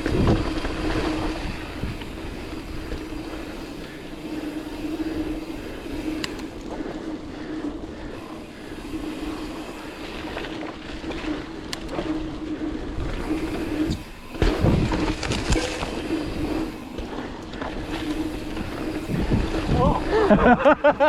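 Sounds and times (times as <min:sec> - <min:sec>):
bike clicking and rattling: 0:00.0 - 0:21.0
knobby tyres rumbling on dirt: 0:00.0 - 0:21.0
wind: 0:00.0 - 0:21.0.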